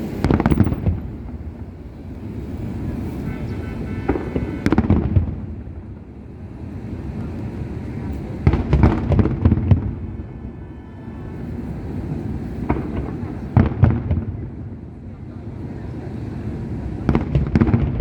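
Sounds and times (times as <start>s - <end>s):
firework shells booming: 0.0s - 15.3s, 16.2s - 18.0s
low background rumble: 0.0s - 18.0s.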